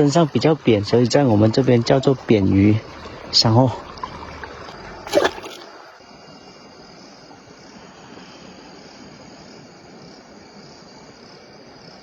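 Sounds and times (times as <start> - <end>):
stream trickling: 0.0 - 10.0
crickets chirping: 0.0 - 12.0.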